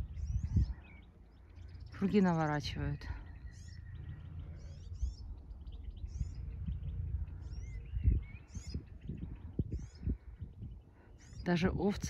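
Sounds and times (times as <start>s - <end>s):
dull low thumps: 0.0s - 0.9s, 1.7s - 11.8s
songbirds chirping and trilling: 0.0s - 12.0s
steady low rumble: 0.0s - 12.0s.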